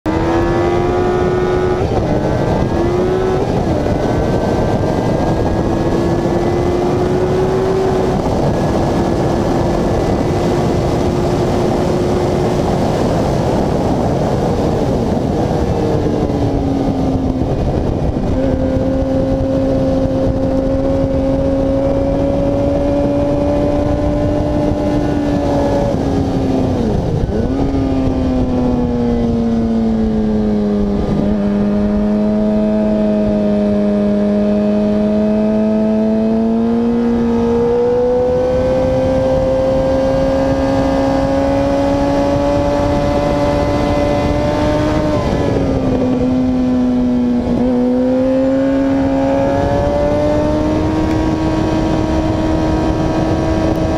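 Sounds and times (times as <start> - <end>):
heavy wind rush: 0.0 - 53.9
motorcycle engine at speed: 0.0 - 53.9.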